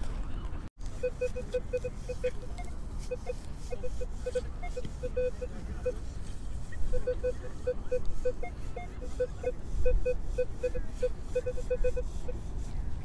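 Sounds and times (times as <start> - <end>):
metal detector beeps: 1.0 - 6.0, 6.9 - 12.4.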